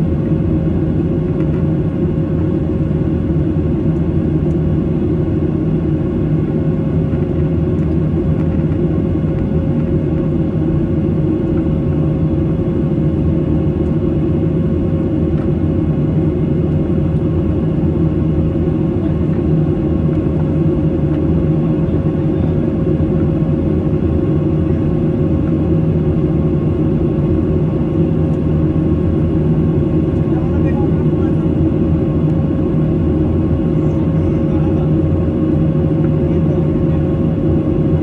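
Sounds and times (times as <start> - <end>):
airplane cabin drone: 0.0 - 38.0
steady hum tone: 0.0 - 38.0.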